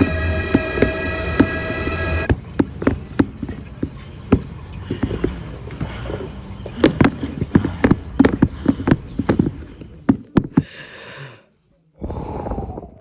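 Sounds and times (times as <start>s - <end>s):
running footsteps: 0.0s - 10.7s.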